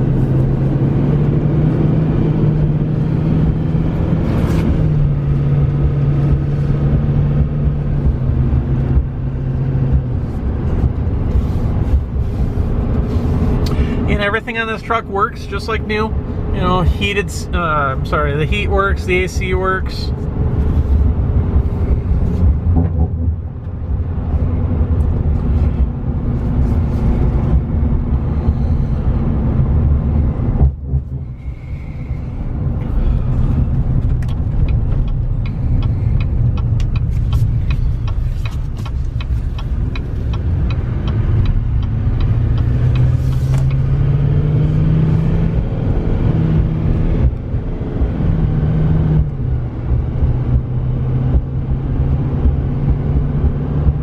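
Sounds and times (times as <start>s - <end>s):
truck engine and tyre rumble: 0.0s - 54.0s.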